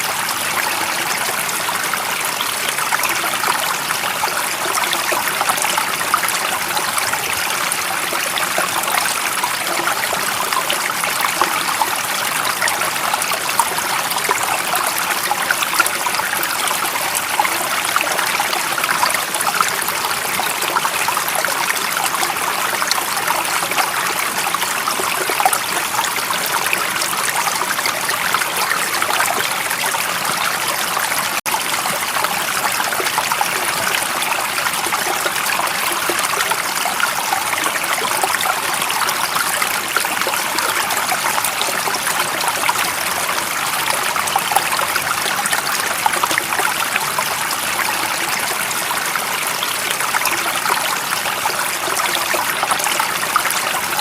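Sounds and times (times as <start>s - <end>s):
stream water trickling: 0.0s - 54.0s.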